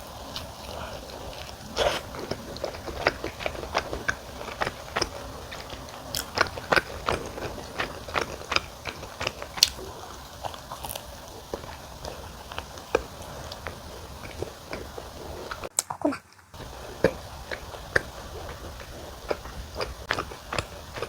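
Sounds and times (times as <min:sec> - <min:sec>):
person chewing crispy food: 0:00.0 - 0:21.0.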